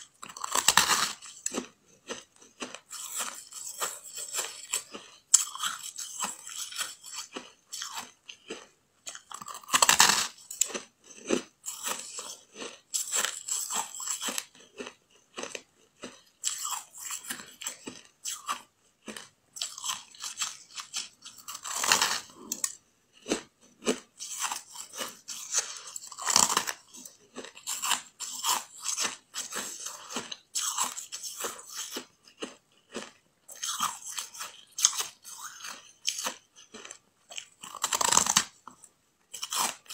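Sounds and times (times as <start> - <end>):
biting and chewing ice: 0.0 - 39.9.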